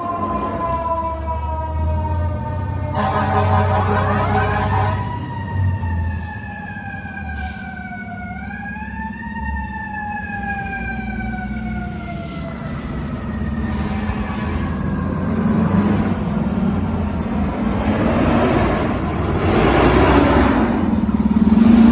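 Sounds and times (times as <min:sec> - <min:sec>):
fire truck siren winding down: 0:00.0 - 0:21.9
truck engine hum: 0:00.0 - 0:21.9.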